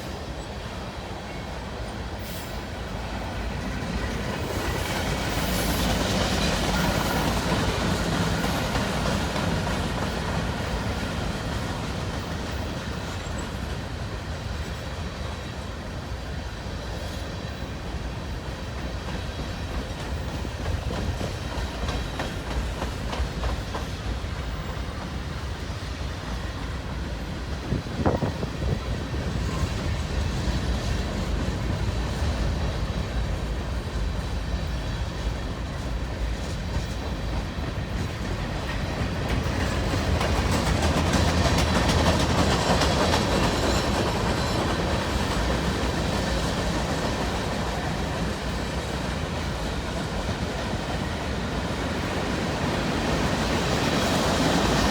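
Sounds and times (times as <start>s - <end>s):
train rumble: 0.0s - 54.9s
train wheels clicking over rail joints: 1.4s - 54.9s.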